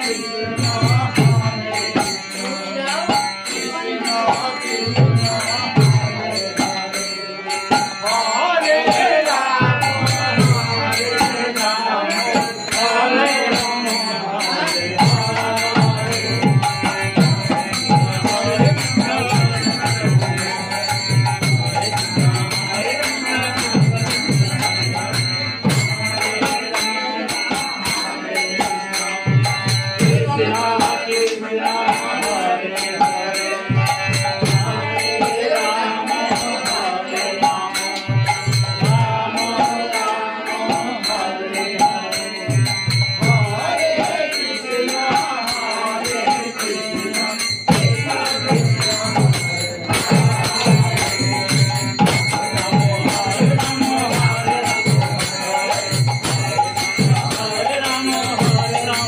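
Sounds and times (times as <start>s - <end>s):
group chanting: 0.0s - 59.0s
jingling percussion: 0.0s - 59.0s.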